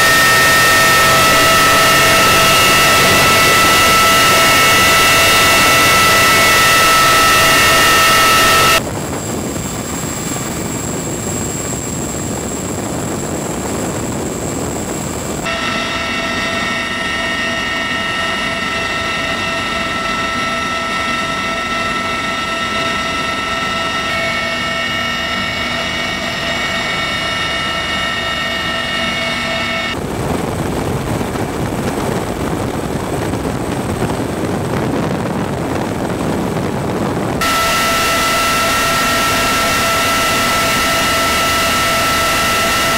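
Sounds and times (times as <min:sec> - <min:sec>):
high whines: 0:00.0 - 0:30.1, 0:37.4 - 0:42.9
helicopter engines and rotors: 0:00.0 - 0:42.9.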